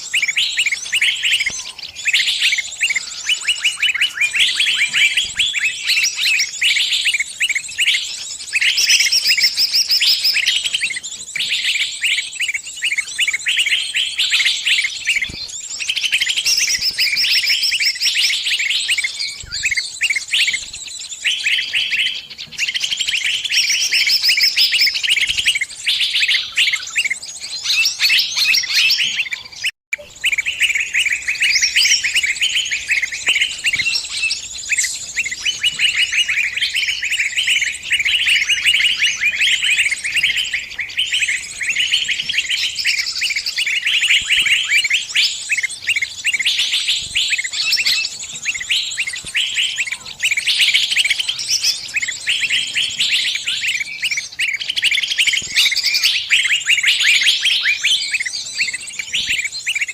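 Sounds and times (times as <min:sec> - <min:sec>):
bird distress calls: 0:00.0 - 0:59.9.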